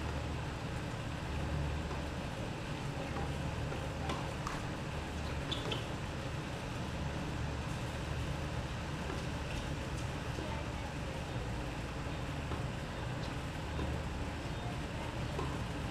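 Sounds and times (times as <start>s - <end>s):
low outdoor rumble: 0.0s - 15.9s.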